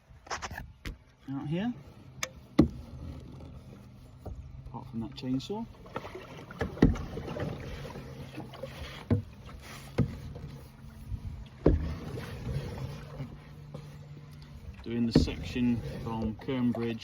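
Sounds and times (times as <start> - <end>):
canoe paddling: 0.0 - 17.0
paddle knocking against hull: 2.2 - 4.8, 5.7 - 17.0.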